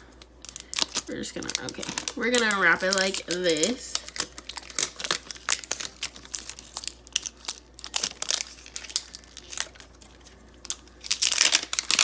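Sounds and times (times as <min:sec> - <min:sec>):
plastic wrapper crinkling and tearing: 0:00.4 - 0:12.0.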